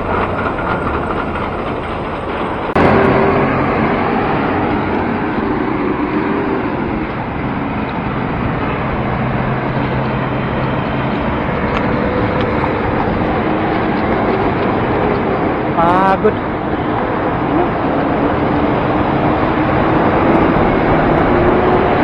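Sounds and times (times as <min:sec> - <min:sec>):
road and wind noise: 0:00.0 - 0:22.0
vehicle engines running nearby: 0:00.0 - 0:22.0.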